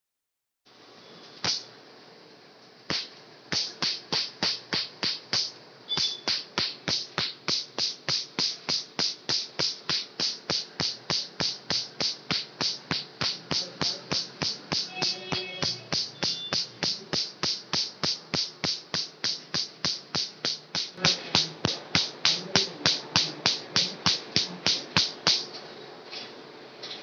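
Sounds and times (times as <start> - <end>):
laser pulse snaps: 1.4 - 1.7, 2.9 - 25.5.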